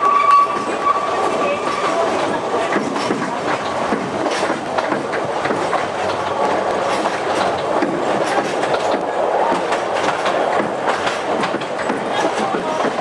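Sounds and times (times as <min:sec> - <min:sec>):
train wheels rumbling on rail: 0:00.0 - 0:13.0
wheels clattering over rail joints: 0:00.0 - 0:13.0.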